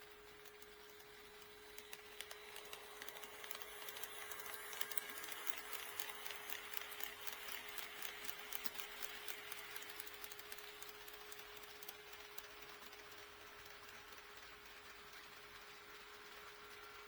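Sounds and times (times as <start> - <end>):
model train rolling rattle: 0.0 - 17.0.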